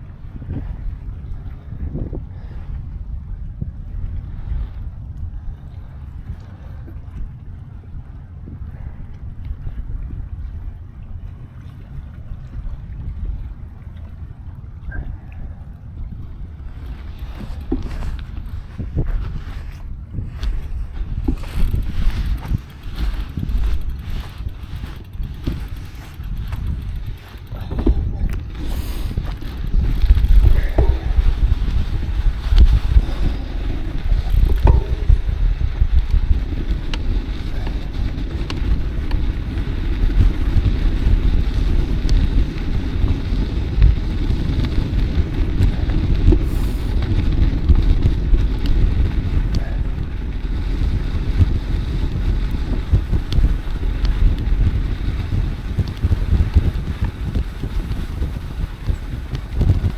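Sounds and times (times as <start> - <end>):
bicycle rolling noise: 0.0 - 59.9
wind buffeting microphone: 0.0 - 59.9.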